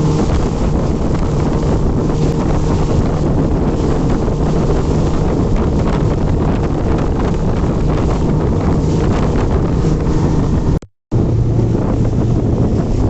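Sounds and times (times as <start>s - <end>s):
engine running: 0.0s - 13.0s
wind noise on microphone: 0.0s - 13.0s.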